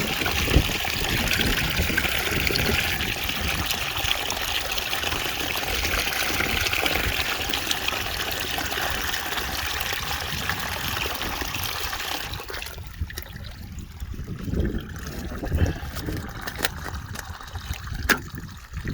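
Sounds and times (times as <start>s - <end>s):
water rushing from drain: 0.0s - 18.9s.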